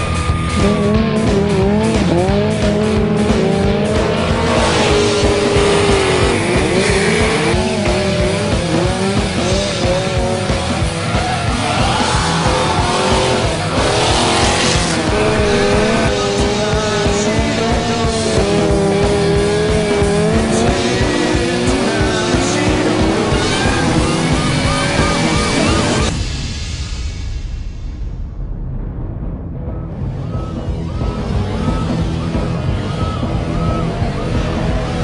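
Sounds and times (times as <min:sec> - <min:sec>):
car engine revving: 0:00.0 - 0:26.2, 0:30.0 - 0:35.0
background music with steady beat: 0:00.0 - 0:35.0.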